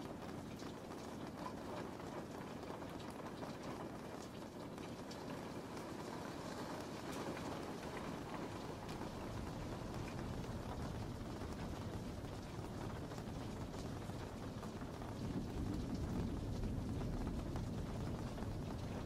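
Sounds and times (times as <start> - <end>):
faint raindrop taps: 0.0 - 19.0
steady rain hiss: 0.0 - 19.0.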